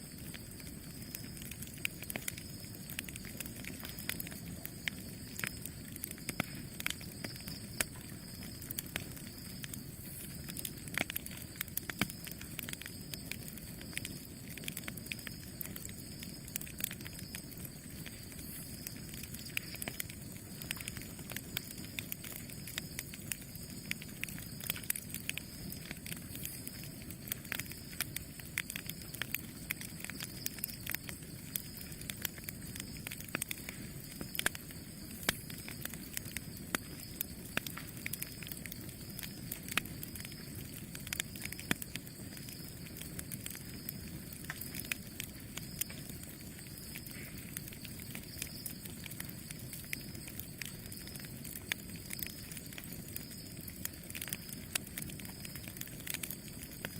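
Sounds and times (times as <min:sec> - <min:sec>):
campfire flames rushing: 0:00.0 - 0:56.9
wood popping and crackling: 0:00.0 - 0:56.9.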